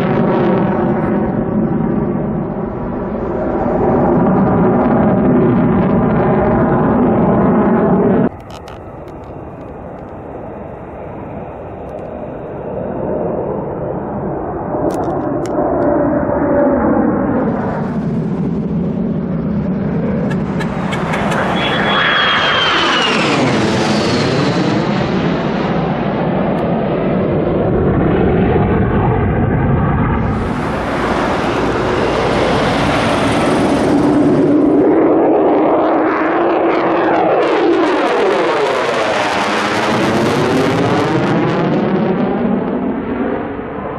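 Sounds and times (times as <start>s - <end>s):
jet engine roar: 0.0s - 43.9s
jet engine whine: 0.0s - 43.9s.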